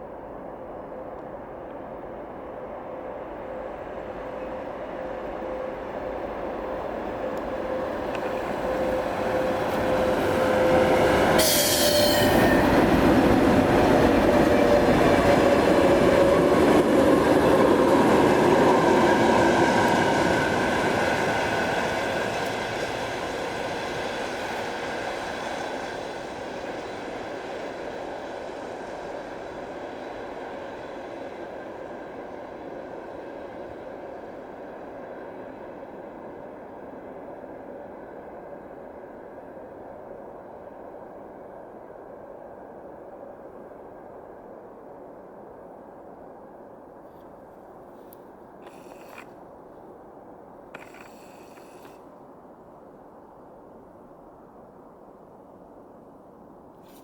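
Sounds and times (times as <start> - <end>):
train rumble and wheel noise: 0.0 - 57.0.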